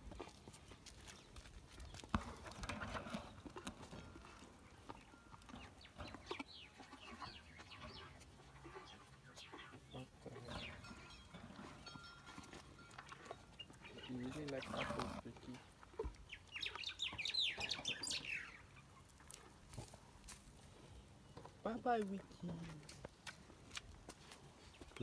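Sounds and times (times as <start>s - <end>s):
calf chewing apple: 0.0s - 20.6s.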